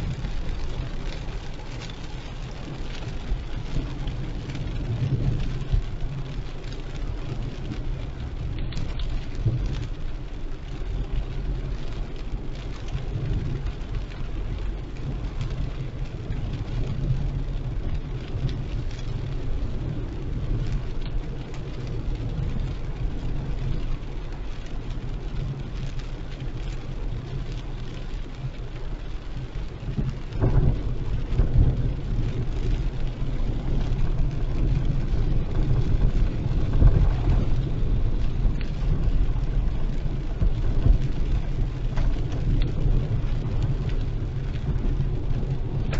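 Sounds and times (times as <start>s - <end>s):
car and road rumble: 0.0s - 45.9s
heavy rain on a car: 0.0s - 45.9s.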